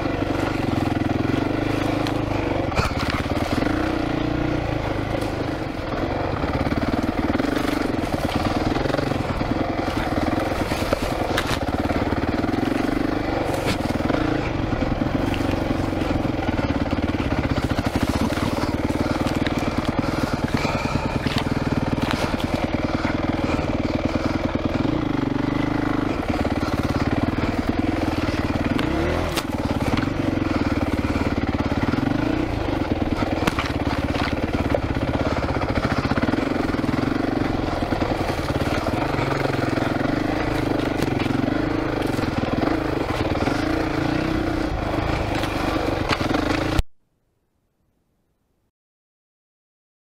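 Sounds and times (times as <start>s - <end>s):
brush scraping against bike: 0.0s - 46.8s
dirt bike engine running: 0.0s - 46.8s.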